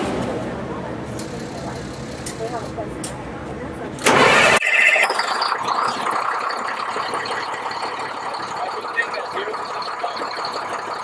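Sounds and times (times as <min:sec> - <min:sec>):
truck diesel engine idling: 0:00.8 - 0:04.4, 0:05.4 - 0:11.0.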